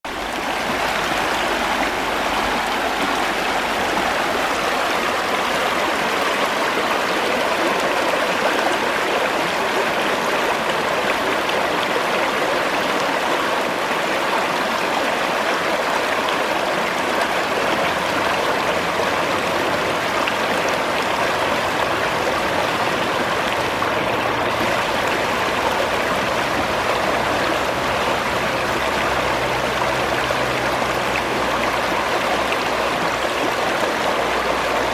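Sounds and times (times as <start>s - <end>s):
river flowing: 0.1s - 34.9s.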